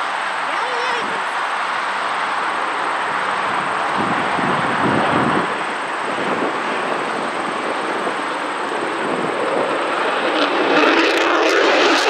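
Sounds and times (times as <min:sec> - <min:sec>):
fighter jet taking off: 0:00.0 - 0:12.0.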